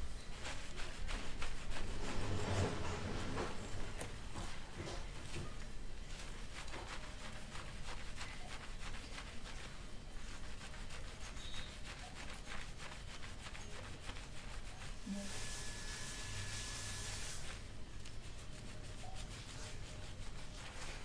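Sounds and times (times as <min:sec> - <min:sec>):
fingers scrubbing lathered hair: 0:00.0 - 0:21.0.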